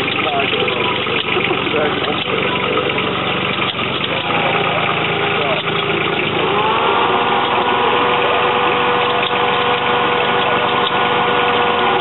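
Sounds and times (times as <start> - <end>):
constant whine: 0.0 - 12.0
vehicle engine running: 0.0 - 12.0.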